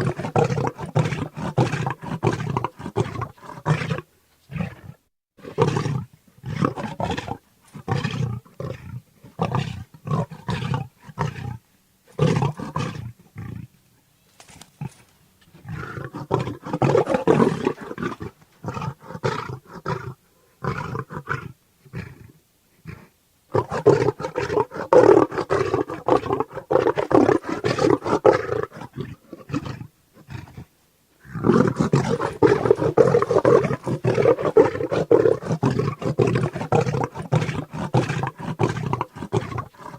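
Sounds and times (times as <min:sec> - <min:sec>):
tiger roaring: 0:00.0 - 0:13.7, 0:14.8 - 0:22.3, 0:22.9 - 0:39.9.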